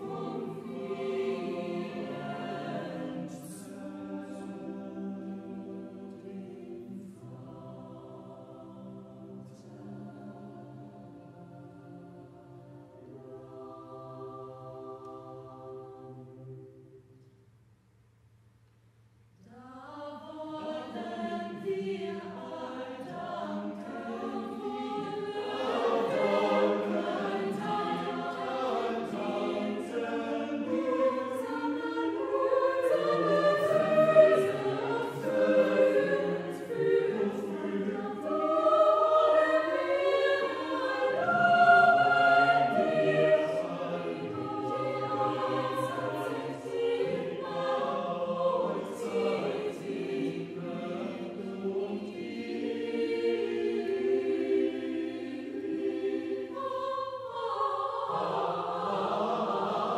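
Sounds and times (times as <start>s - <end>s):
mixed choir singing unaccompanied: 0.0s - 17.0s, 19.4s - 59.9s.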